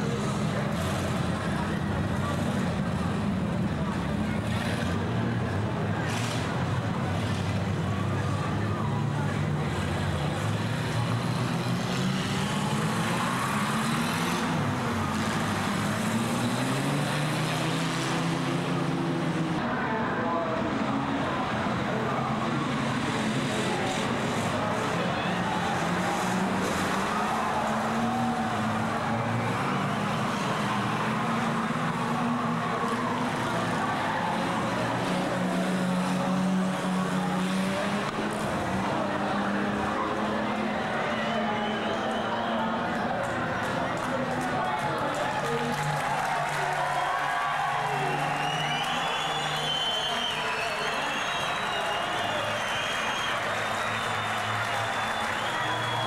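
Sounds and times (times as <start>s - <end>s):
racing car engines revving past: 0.0s - 56.0s.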